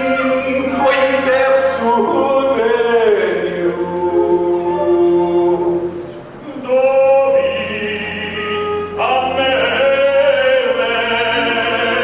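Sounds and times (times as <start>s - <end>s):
voices singing unaccompanied: 0.0s - 5.8s, 6.5s - 12.0s.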